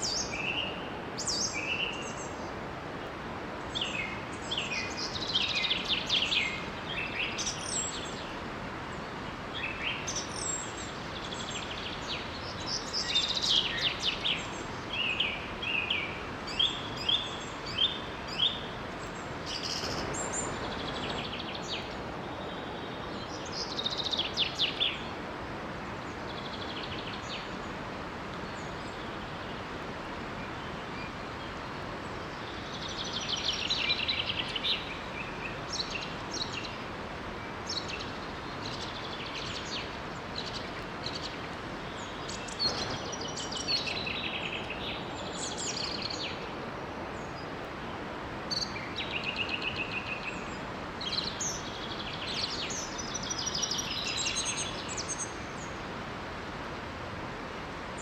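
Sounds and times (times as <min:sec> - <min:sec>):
small waterfall rushing: 0:00.0 - 0:58.0
songbirds chirping and trilling: 0:00.0 - 0:58.0.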